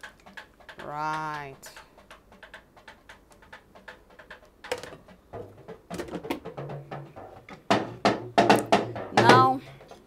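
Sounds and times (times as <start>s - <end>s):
colander and pasta tapping pot: 0.0s - 9.7s
knocks and clatter on pot: 0.0s - 9.8s.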